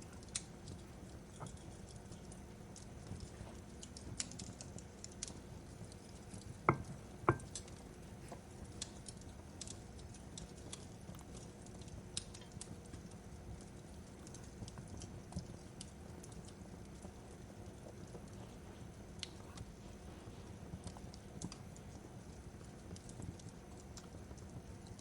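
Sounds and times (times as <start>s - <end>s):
fire pops: 0.0s - 25.0s
wood fire crackling: 0.0s - 25.0s.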